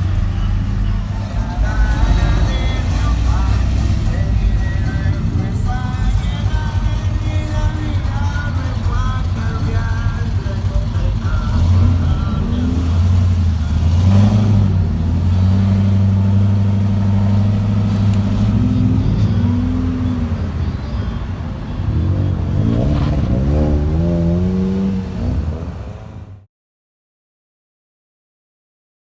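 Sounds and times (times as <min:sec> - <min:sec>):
vehicle engine revving: 0:00.0 - 0:26.5.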